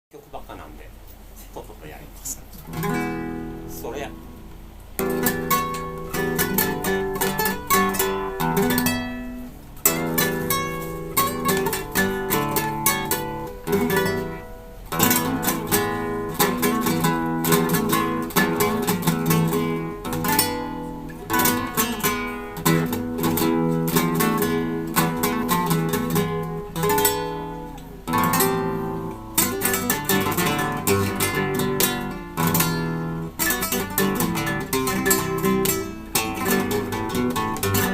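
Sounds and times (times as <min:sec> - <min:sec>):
solo acoustic guitar: 0:02.4 - 0:37.9.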